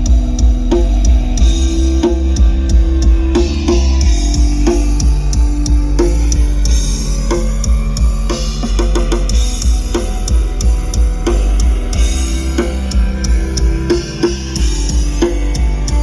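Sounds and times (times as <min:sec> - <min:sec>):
drum kit beat: 0:00.0 - 0:16.0
rock music: 0:00.0 - 0:16.0.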